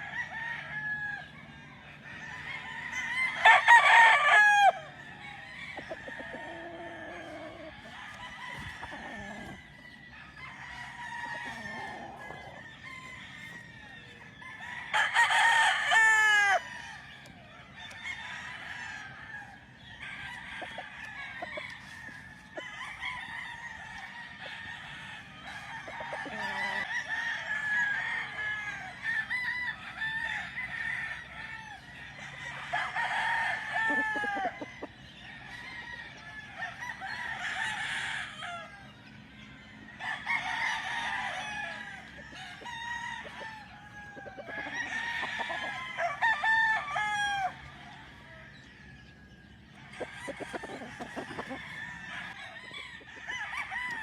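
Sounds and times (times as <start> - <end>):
chickens clucking: 0.0 - 54.0
roosters crowing: 0.0 - 54.0.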